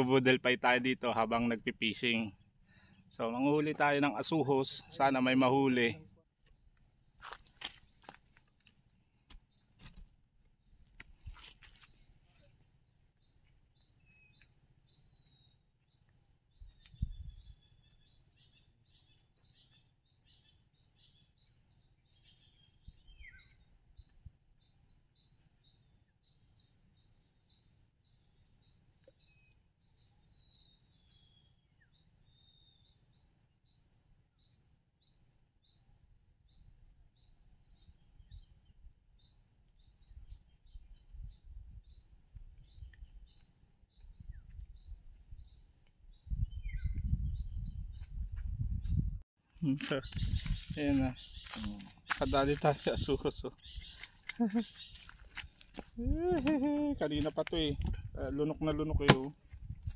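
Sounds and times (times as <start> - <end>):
bird chirping: 1.0 - 10.0, 10.6 - 59.4.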